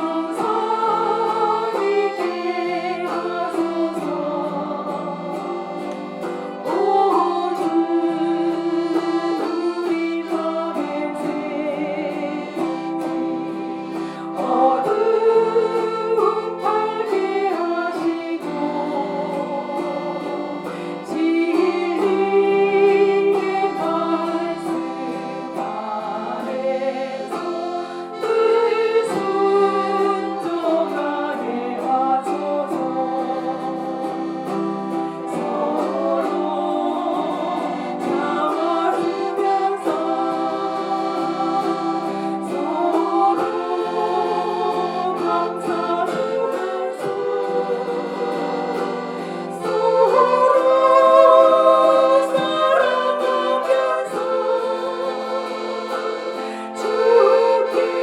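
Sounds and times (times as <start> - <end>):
accordion chords and melody: 0.0 - 58.0.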